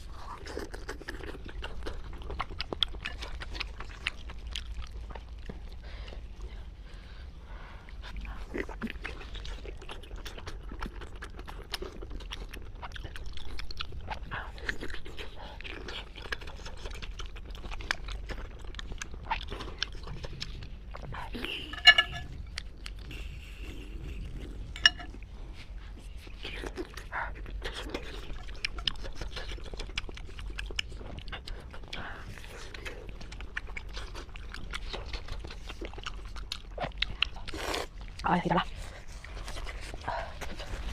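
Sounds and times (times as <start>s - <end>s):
person chewing and crunching: 0.0s - 40.9s.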